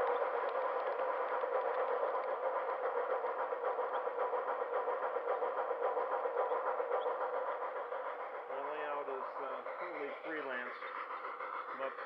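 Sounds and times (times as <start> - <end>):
model train whirring and clicking: 0.0 - 12.0.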